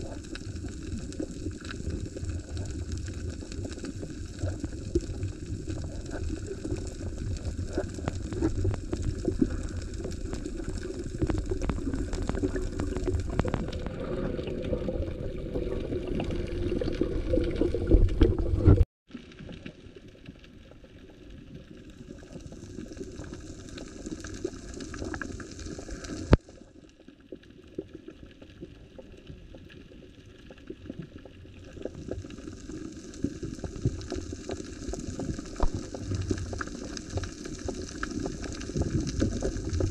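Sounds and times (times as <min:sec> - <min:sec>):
underwater bubbling water wash: 0:00.0 - 0:39.9
underwater clicks and crackles: 0:00.0 - 0:39.9.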